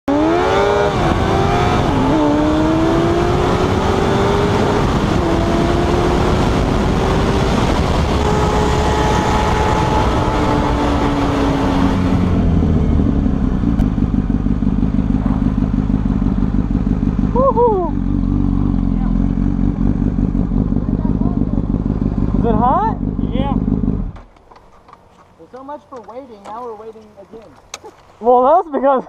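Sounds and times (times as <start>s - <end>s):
motorcycle engine revving through gears: 0.0s - 25.7s.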